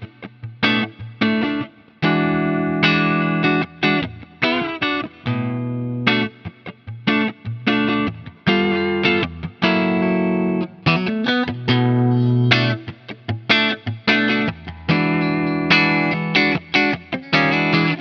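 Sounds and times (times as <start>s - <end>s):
electric guitar through amplifier: 0.0s - 18.0s.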